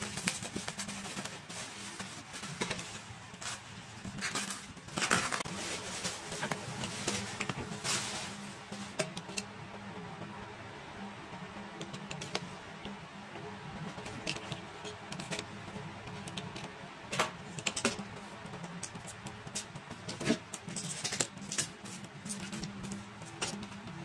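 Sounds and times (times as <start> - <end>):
quiet background music: 0.0 - 24.0.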